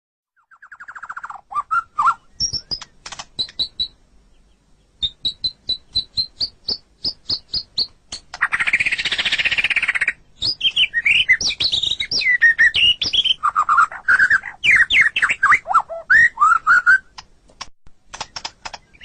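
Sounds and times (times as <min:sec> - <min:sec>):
bird singing: 0:00.4 - 0:17.1, 0:18.2 - 0:19.0.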